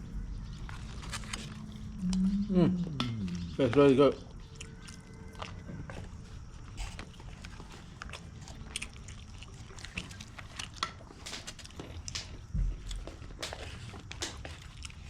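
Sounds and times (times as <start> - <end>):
low background rumble: 0.0 - 15.0
person chewing and eating: 0.0 - 15.0.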